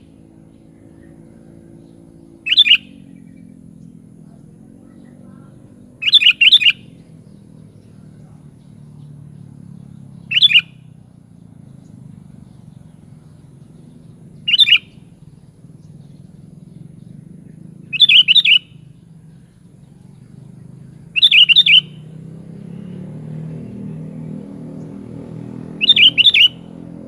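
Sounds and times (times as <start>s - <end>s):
bulbul calling: 0.0s - 22.9s, 23.5s - 27.0s.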